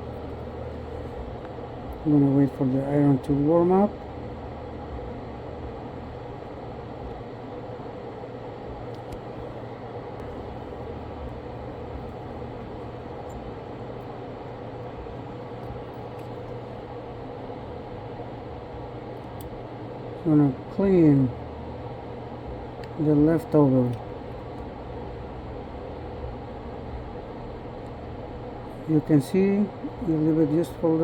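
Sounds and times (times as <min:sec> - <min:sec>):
fan running: 0:00.0 - 0:31.0
low hum: 0:00.0 - 0:31.0.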